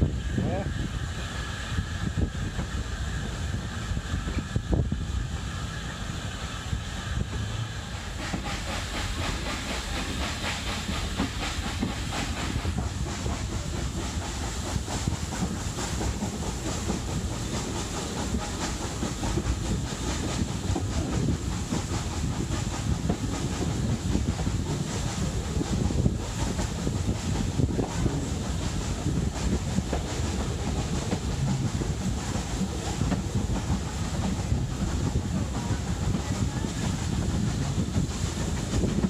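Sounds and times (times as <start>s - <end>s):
locomotive exhaust beats: 0.0s - 39.0s
steam hiss: 0.0s - 39.0s.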